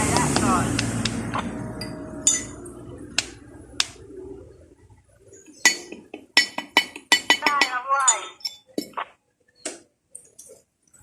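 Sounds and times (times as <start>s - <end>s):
low background hum: 0.0s - 9.0s.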